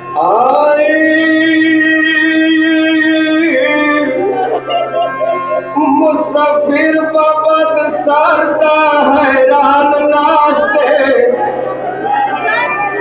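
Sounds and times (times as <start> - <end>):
man singing a lament: 0.0 - 4.6, 5.6 - 11.6.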